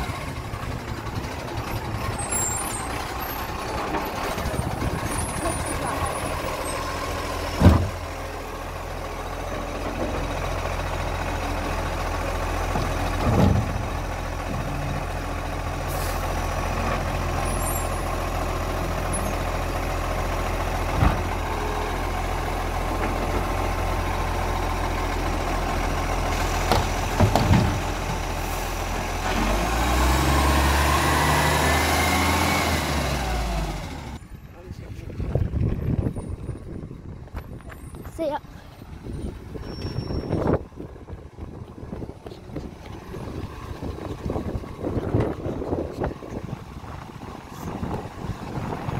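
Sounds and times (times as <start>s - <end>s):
garbage truck engine running: 0.0s - 34.5s, 35.4s - 48.9s.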